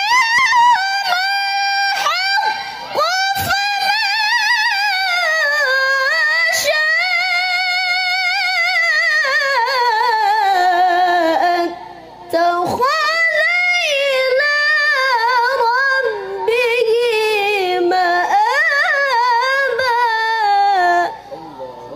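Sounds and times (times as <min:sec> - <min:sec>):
woman reciting melodically through microphone: 0:00.0 - 0:21.9.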